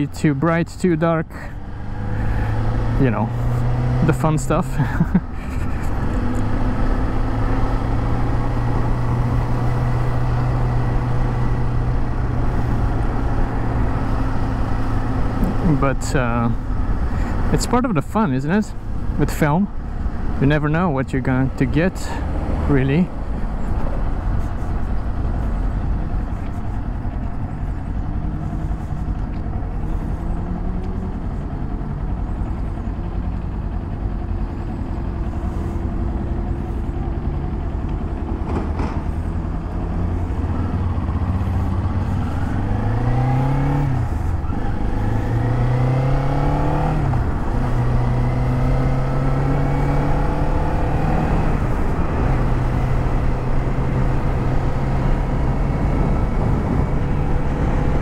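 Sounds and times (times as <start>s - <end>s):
motorcycle engine running: 1.4s - 58.0s.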